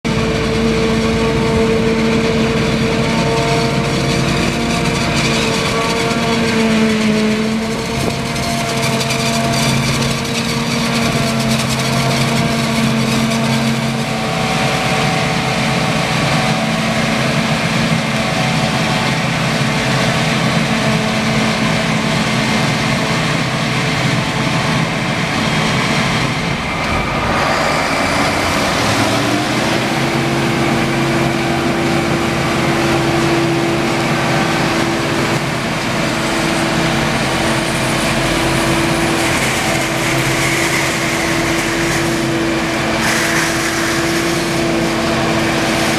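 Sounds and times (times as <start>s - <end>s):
forage harvester engine drone: 0.0s - 45.9s.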